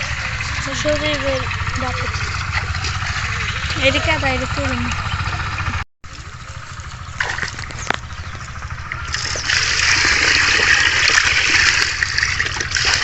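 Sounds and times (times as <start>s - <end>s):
steady low hum: 0.0s - 13.0s
water splashing and trickling: 0.0s - 13.0s.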